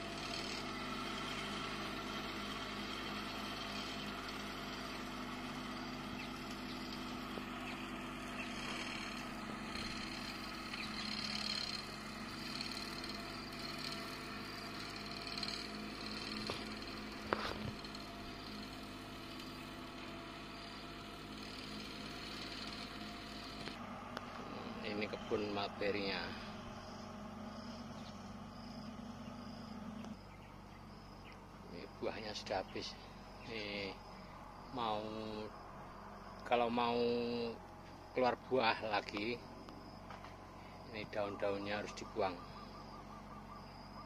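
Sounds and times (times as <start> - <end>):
grass-cutting machine engine running: 0.0 - 43.9.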